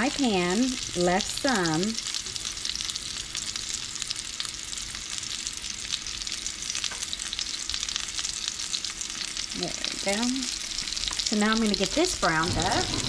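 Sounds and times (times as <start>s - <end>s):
grease sizzling in a frying pan: 0.0s - 13.0s.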